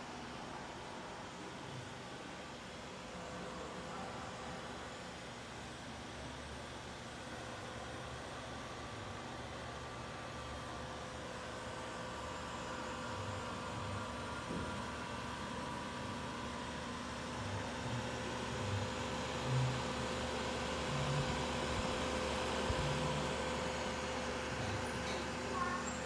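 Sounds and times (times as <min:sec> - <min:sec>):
computer fans humming and whirring: 0:04.2 - 0:26.0.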